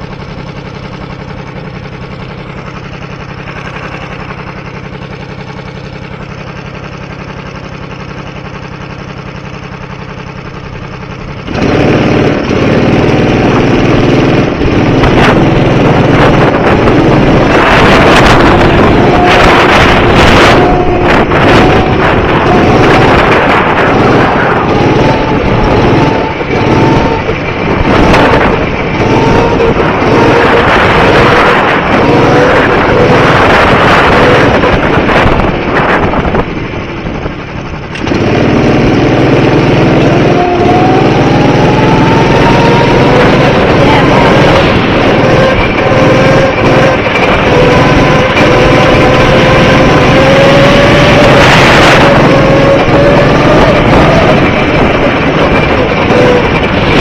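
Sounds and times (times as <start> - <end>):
go-kart engine revving: 0.0 - 57.0
wind buffeting microphone: 10.1 - 57.0.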